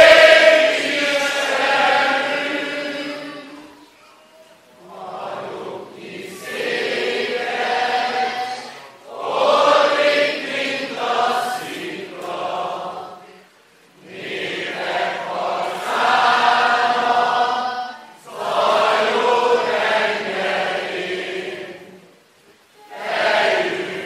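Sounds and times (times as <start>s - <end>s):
large crowd singing: 0.0s - 3.8s, 4.8s - 22.1s, 22.8s - 24.0s.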